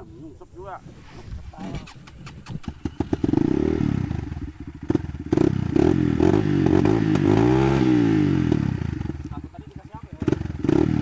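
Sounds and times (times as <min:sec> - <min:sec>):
motorcycle engine revving: 0:01.4 - 0:11.0.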